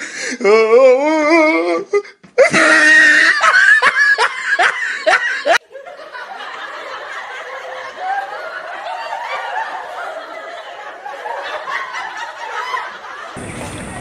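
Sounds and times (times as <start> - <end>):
people laughing: 2.5 - 14.0.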